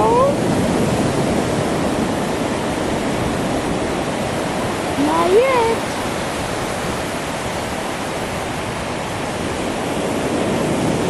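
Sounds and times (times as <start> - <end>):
ocean surf on beach: 0.0 - 11.0.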